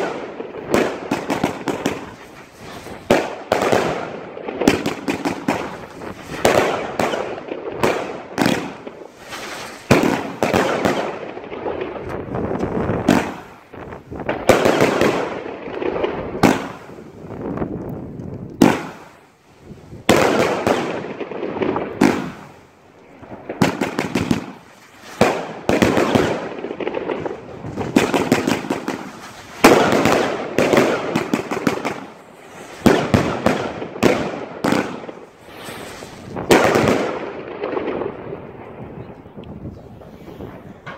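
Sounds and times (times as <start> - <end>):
firework cake sharp bangs: 0.0 - 17.5, 18.6 - 19.2, 20.0 - 22.6, 23.4 - 38.6
crackling star bursts: 0.0 - 40.9.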